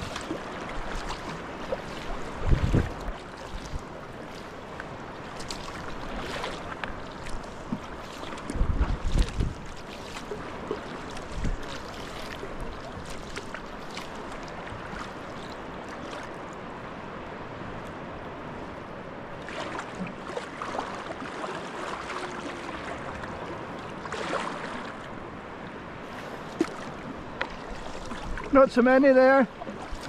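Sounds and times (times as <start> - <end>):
water lapping around kayak: 0.0 - 30.0
water splashes: 0.0 - 30.0.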